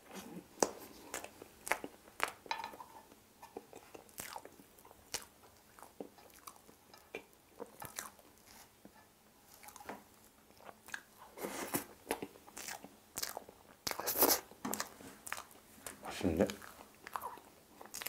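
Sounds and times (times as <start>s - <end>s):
person chewing with wet mouth sounds: 0.0s - 2.5s, 3.1s - 8.9s, 9.5s - 18.0s.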